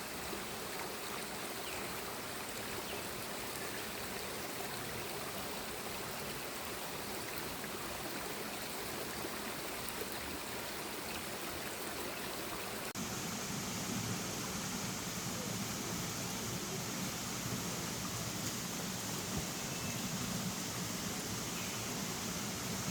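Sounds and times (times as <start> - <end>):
stream running over rocks: 0.0 - 22.9.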